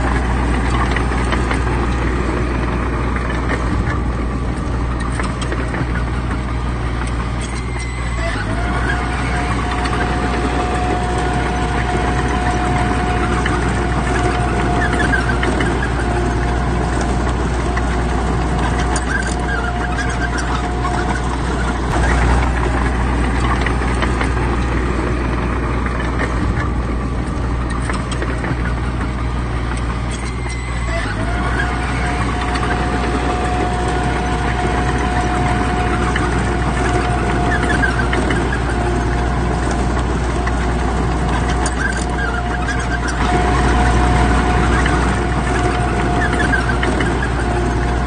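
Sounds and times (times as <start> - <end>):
heavy diesel machinery drone: 0.0 - 48.0
steady machine whine: 0.0 - 48.0.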